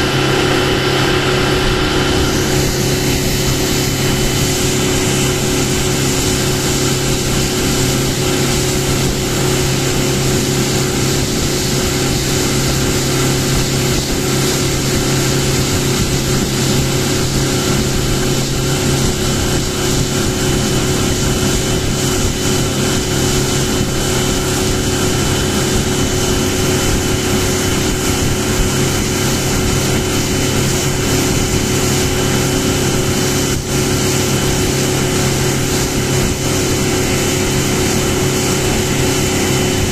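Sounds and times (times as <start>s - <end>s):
boat engine humming: 0.0s - 39.9s
water and wind hiss: 0.0s - 39.9s.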